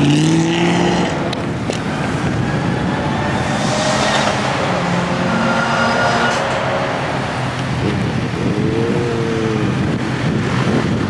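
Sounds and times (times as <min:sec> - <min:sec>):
car engines in traffic: 0:00.0 - 0:11.0
road noise: 0:00.0 - 0:11.0.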